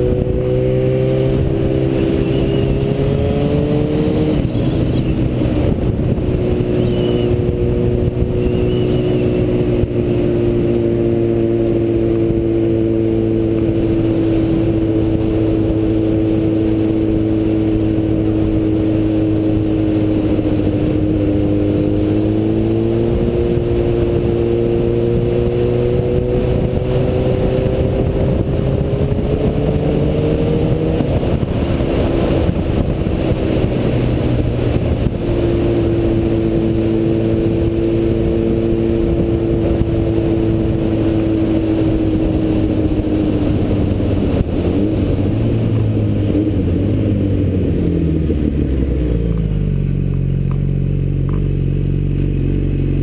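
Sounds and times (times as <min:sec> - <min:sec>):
wind rushing over microphone: 0:00.0 - 0:50.1.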